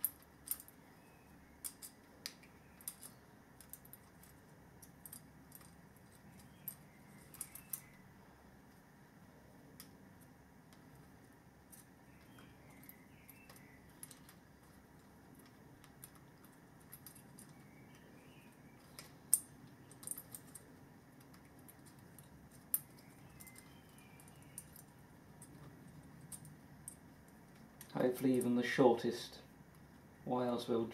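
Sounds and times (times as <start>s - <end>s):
small clicks and ticks: 0.0s - 0.8s, 1.6s - 8.0s, 9.7s - 28.6s.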